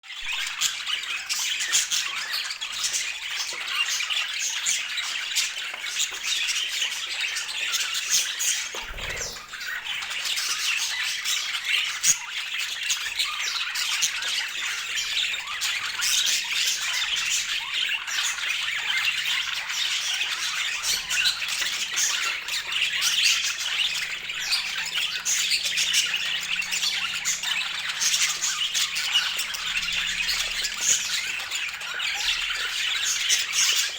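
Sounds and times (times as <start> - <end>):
budgerigars chattering and squawking: 0.2 - 33.9.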